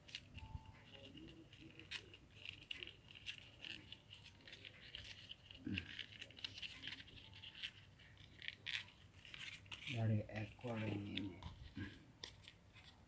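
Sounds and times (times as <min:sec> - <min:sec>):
cardboard and paper crinkling: 0:00.0 - 0:13.0.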